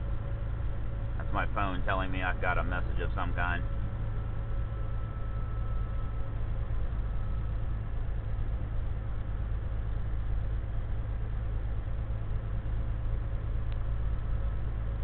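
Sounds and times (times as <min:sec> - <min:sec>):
road noise inside cab: 0:00.0 - 0:15.0
truck diesel engine drone: 0:00.0 - 0:15.0.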